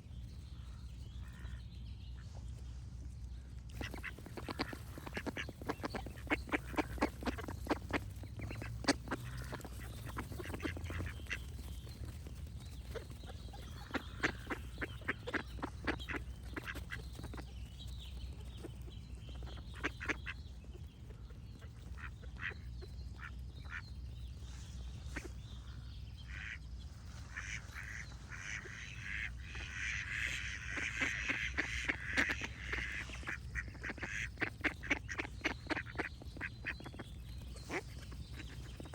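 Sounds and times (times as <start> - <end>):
songbirds singing: 0.0 - 38.9
ducks quacking: 3.7 - 38.9.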